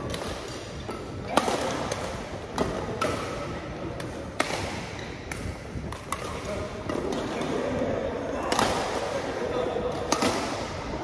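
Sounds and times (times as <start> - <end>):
rackets hitting shuttlecock: 0.0 - 11.0.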